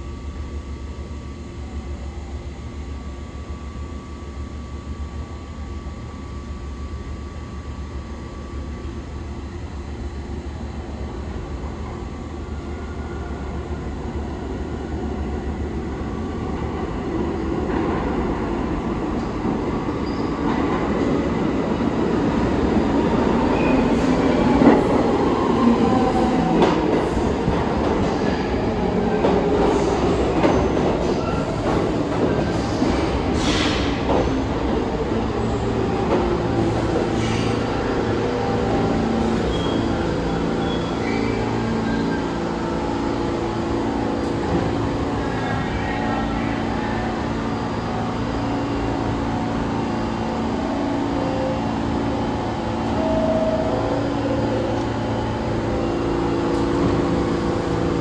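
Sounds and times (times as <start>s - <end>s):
subway train approaching: 0.0s - 58.0s.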